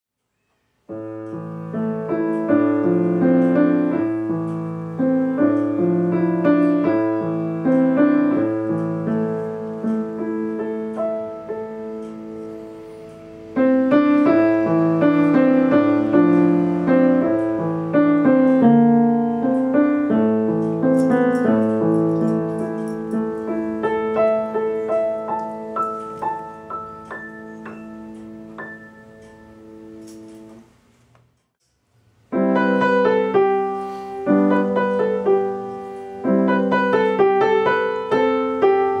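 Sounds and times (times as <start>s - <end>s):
piano playing simple pieces: 0.8s - 30.8s, 32.1s - 39.0s.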